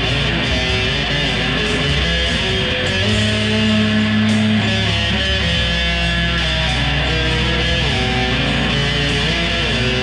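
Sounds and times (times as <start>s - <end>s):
electric guitar through amplifier: 0.0s - 10.0s.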